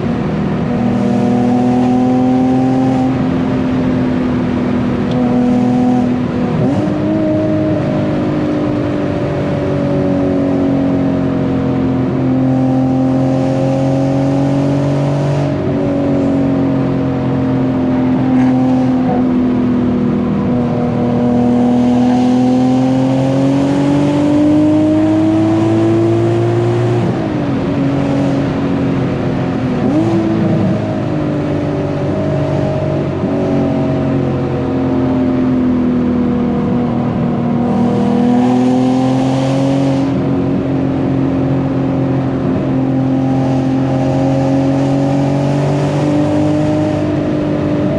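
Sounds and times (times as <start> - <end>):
car engine running while driving: 0.0 - 47.9.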